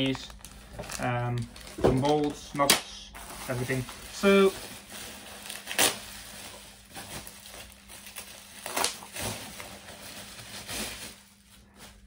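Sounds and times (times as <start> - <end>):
bubble wrap crinkling: 0.0 - 2.4, 3.2 - 12.0
sharp bubble wrap crackles: 0.0 - 12.0.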